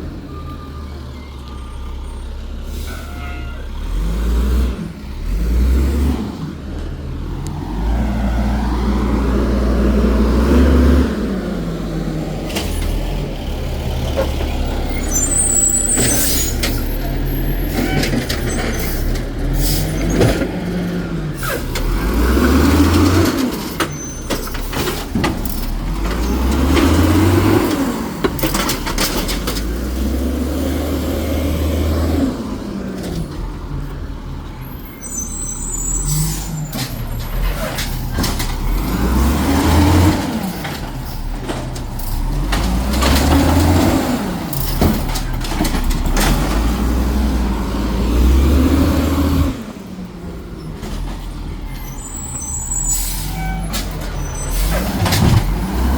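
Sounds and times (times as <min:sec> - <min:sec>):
garbage truck engine revving: 0:03.6 - 0:55.9.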